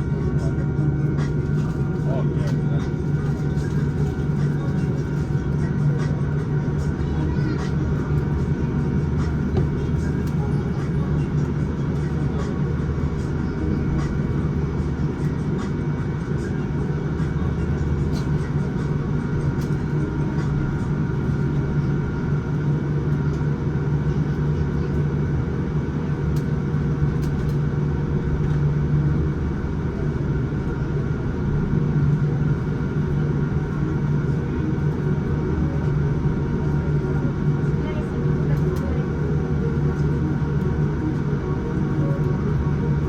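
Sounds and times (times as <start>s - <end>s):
aircraft engines idling hum: 0.0s - 43.0s.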